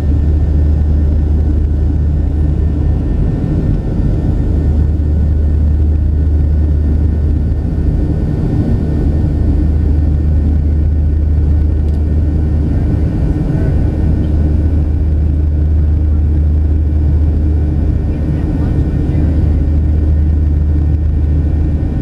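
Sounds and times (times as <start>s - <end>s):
jet engines and airflow drone: 0.0s - 22.0s.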